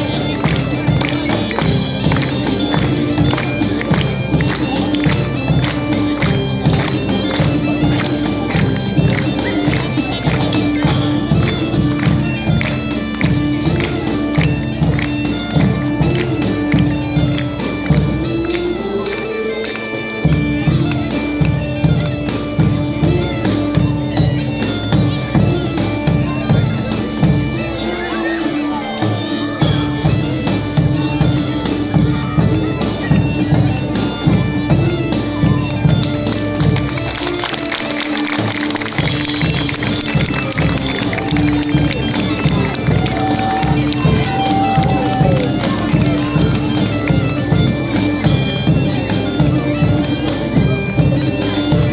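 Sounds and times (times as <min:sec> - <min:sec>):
drums beating: 0:00.0 - 0:19.1, 0:20.2 - 0:27.8, 0:29.1 - 0:51.9
bagpipes playing: 0:00.0 - 0:51.9.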